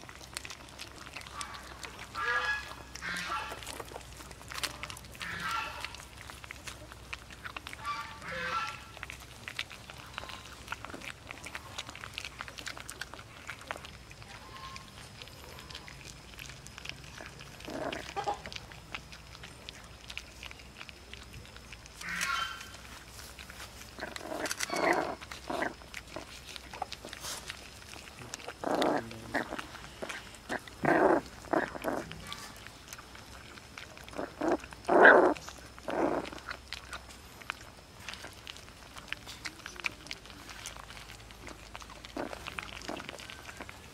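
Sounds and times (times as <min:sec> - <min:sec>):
puppies chewing and smacking: 0:00.0 - 0:43.9
puppy vocal noises: 0:00.0 - 0:43.9.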